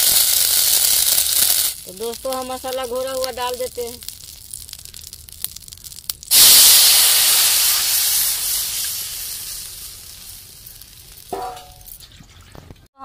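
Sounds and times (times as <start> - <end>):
paste hissing and sizzling in oil: 0.0 - 12.0.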